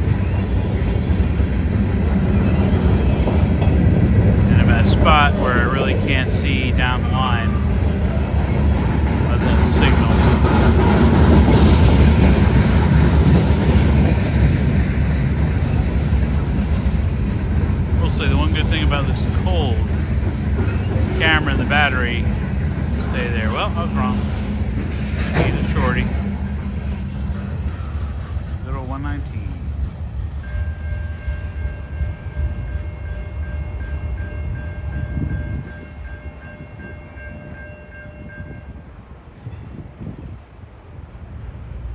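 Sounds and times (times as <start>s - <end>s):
crossing warning bell ringing: 0.0s - 14.1s, 15.7s - 29.7s, 30.4s - 39.8s
freight train wheels rumbling: 0.0s - 41.9s.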